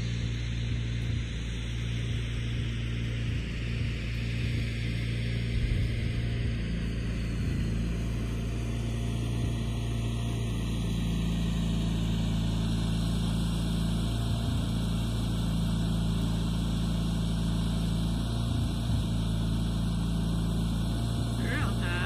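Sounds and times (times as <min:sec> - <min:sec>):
motor humming steadily: 0:00.0 - 0:22.0.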